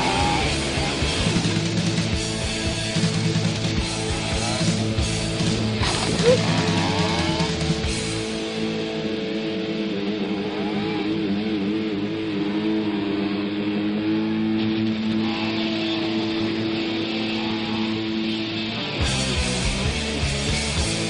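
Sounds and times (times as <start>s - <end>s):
electric guitar bent notes: 0.0s - 21.0s
rock background music: 0.0s - 21.0s.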